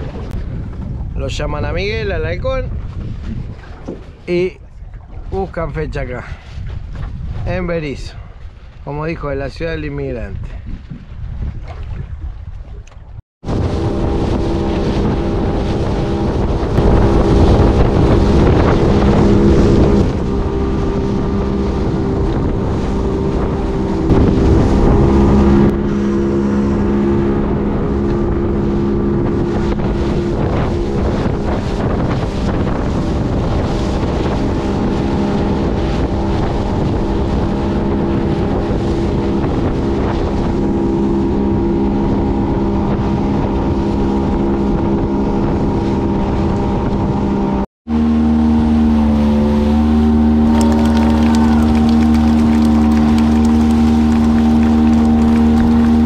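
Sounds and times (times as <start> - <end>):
motorboat engine running: 0.0 - 9.2, 10.1 - 56.0
wind buffeting microphone: 0.0 - 56.0.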